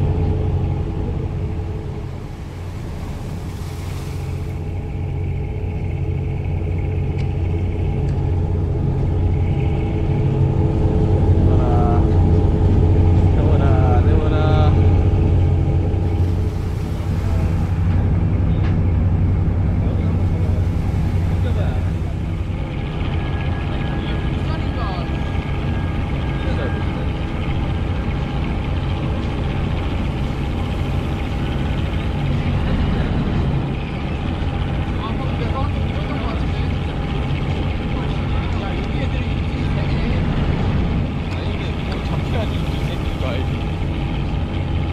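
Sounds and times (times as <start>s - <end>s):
boat engine rumbling: 0.0s - 44.9s.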